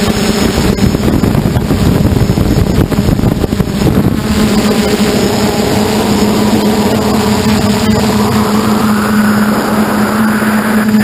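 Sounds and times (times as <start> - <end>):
electric motors and propellers humming: 0.0 - 11.0
wind buffeting on microphone: 0.0 - 11.0.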